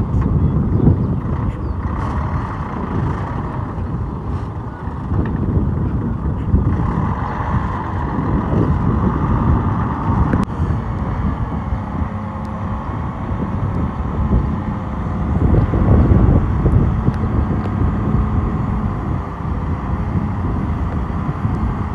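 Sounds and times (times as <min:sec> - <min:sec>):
heavy diesel machinery rumbling: 0:00.0 - 0:21.9.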